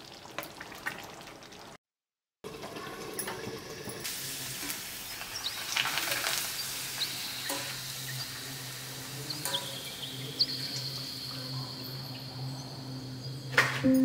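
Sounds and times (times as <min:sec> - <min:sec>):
hot oil sizzling: 0:00.0 - 0:01.8, 0:02.4 - 0:13.9.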